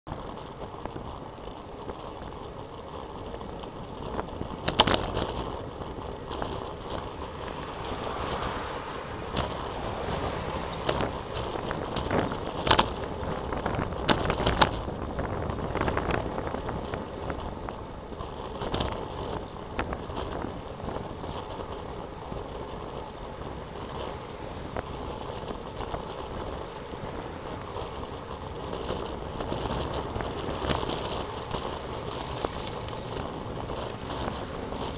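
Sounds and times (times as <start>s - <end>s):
wind and road noise of bicycle: 0.0s - 34.9s
sharp clicks and rattles: 0.1s - 34.9s.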